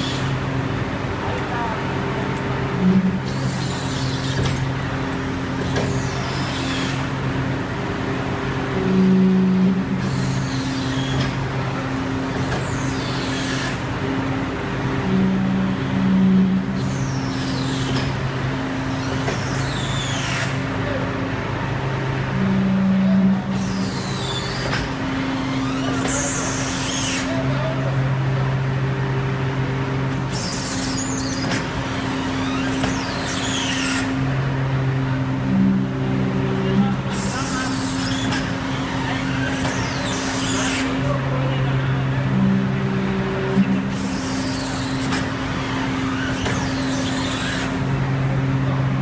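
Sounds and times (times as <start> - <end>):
machine hum with shifting tones: 0.0 - 49.0.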